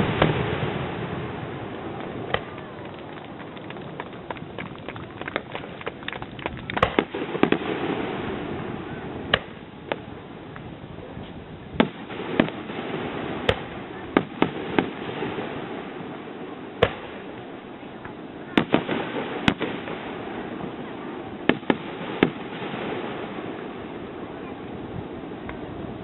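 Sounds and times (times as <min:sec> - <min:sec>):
fireworks crackling pops: 0:00.0 - 0:25.7.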